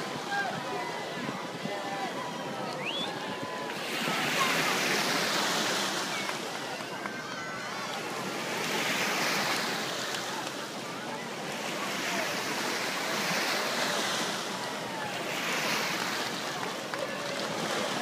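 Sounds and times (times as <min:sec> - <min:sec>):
faint crowd voices: 0:00.0 - 0:18.0
surf washing on sand: 0:00.0 - 0:18.0.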